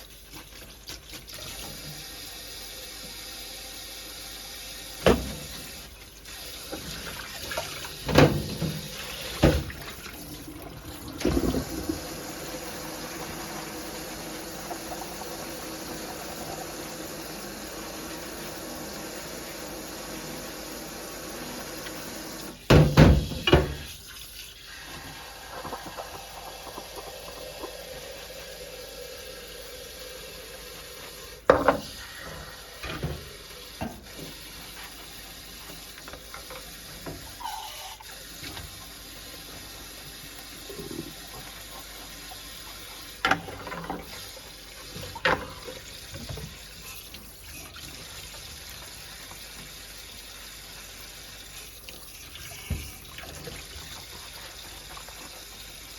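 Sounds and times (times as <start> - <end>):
steady water noise: 5.0 - 22.6, 23.5 - 55.9.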